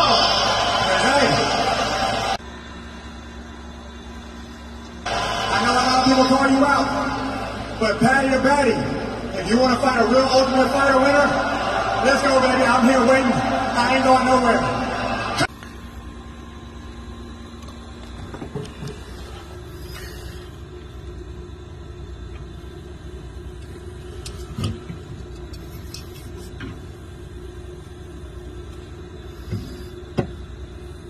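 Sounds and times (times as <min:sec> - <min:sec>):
cooler fan and compressor hum: 0:00.0 - 0:31.0.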